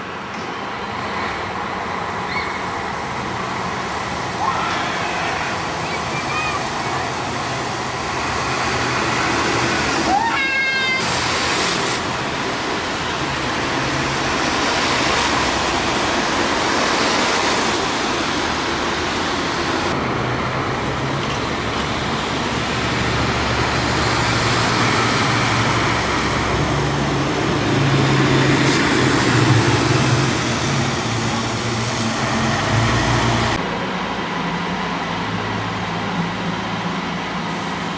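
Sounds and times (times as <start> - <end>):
bus engine passing: 0.0 - 37.9
tyres hissing on wet road: 2.2 - 37.9.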